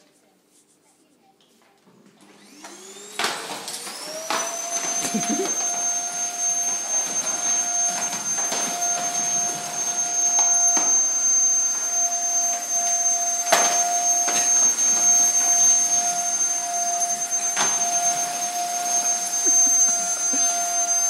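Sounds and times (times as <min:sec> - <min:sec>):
vacuum cleaner running: 0:02.0 - 0:21.0.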